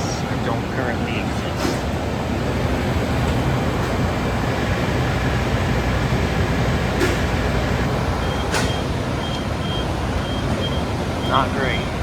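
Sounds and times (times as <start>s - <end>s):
condensing unit fan running: 0.0s - 12.0s.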